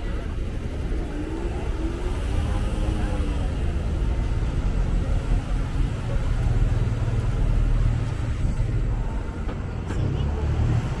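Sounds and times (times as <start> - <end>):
bus engine rumble: 0.0 - 11.0
street traffic noise: 0.0 - 11.0.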